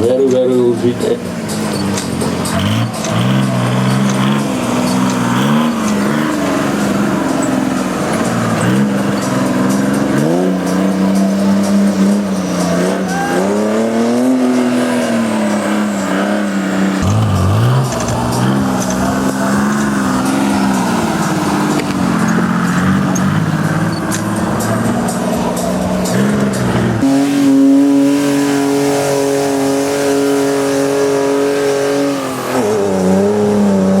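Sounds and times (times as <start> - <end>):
buggy engine revving: 0.0 - 34.0.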